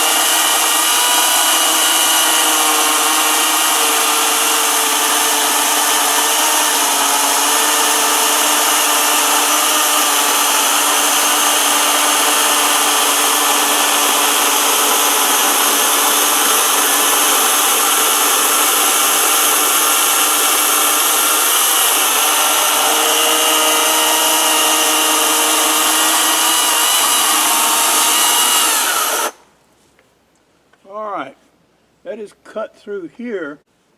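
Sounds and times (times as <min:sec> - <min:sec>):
electric chainsaw cutting wood: 0:00.0 - 0:29.4.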